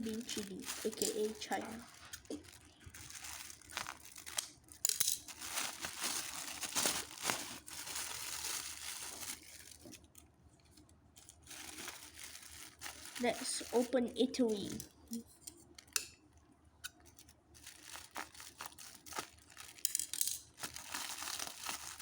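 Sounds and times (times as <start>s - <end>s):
packaging crinkling and tearing: 0.0s - 14.8s, 16.9s - 22.0s.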